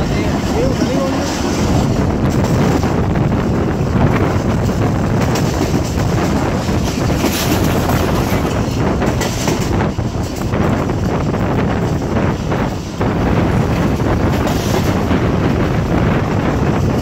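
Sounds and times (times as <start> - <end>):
train running on track: 0.0 - 17.0
wind rushing over microphone: 0.0 - 17.0.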